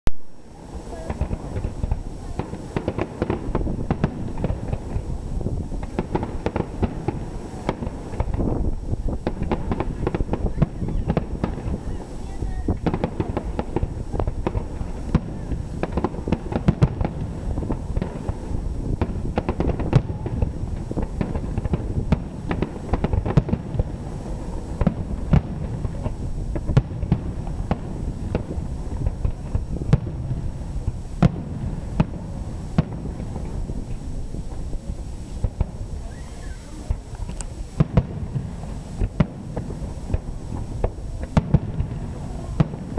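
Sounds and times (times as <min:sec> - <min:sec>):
fireworks bursting with bangs: 0:00.1 - 0:42.9.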